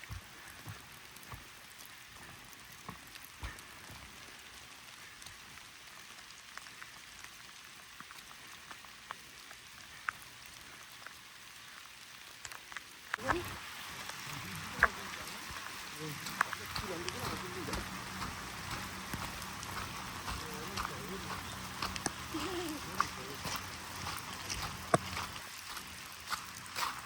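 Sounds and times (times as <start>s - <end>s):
rain hissing: 0.0s - 27.0s.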